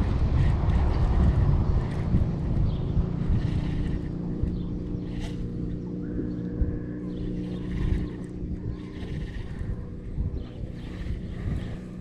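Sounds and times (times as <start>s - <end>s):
boat motor humming: 0.0s - 12.0s
wind rumbling on microphone: 0.0s - 12.0s.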